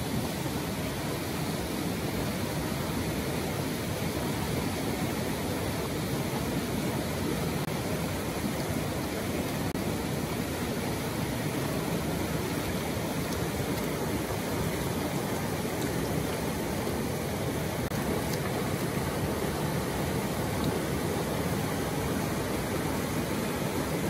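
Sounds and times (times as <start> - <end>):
river rushing over rapids: 0.0 - 24.0.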